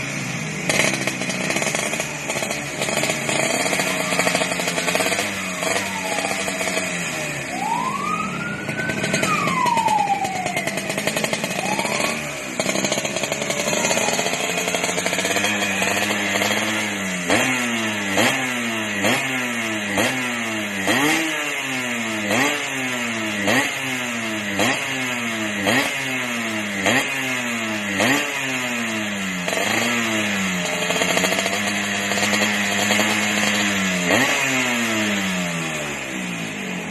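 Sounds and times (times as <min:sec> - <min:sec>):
scooter engine revving: 0:00.0 - 0:36.9.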